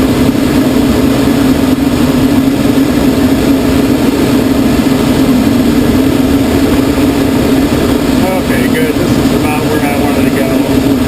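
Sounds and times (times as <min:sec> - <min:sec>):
propeller engine drone: 0:00.0 - 0:11.0
rushing airflow: 0:00.0 - 0:11.0.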